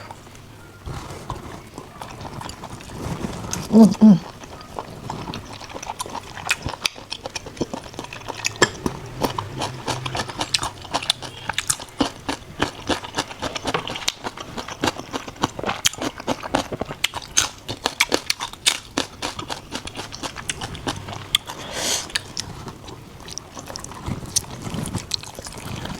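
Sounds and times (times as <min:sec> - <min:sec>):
person chewing wetly: 0:00.9 - 0:25.9.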